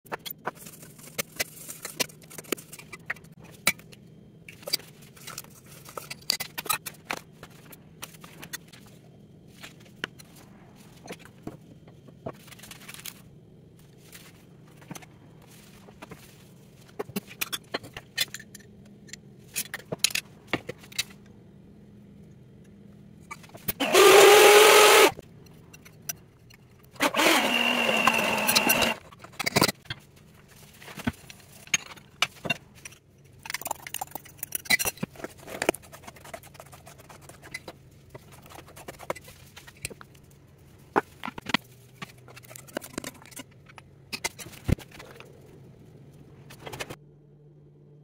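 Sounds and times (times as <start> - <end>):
faint steady hum: 0.1 - 48.0.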